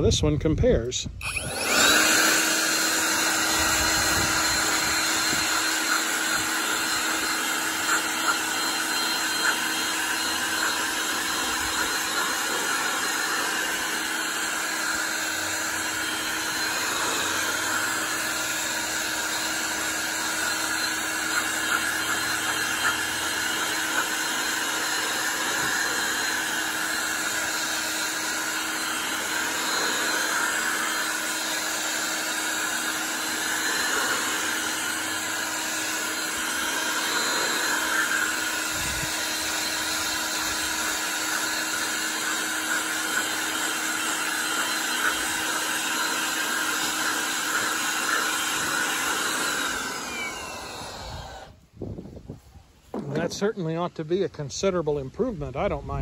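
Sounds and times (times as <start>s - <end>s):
electric blower running: 1.0s - 51.8s.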